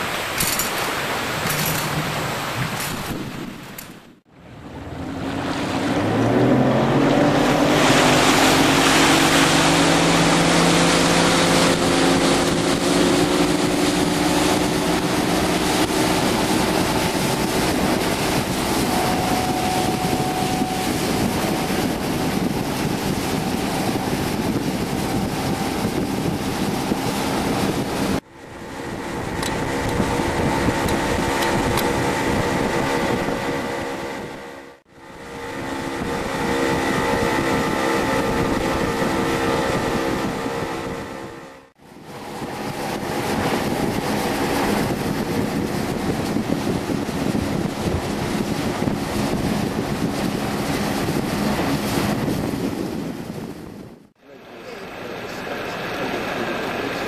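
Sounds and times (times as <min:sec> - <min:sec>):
rushing wind and spray: 0:00.0 - 0:57.0
outboard motor running: 0:00.4 - 0:57.0.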